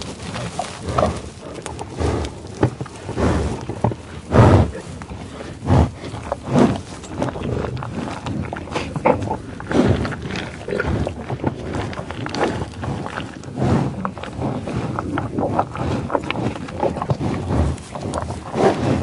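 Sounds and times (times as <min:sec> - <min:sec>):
buffalo sniffing: 0:00.0 - 0:19.0
grass being cropped and chewed: 0:00.0 - 0:19.0.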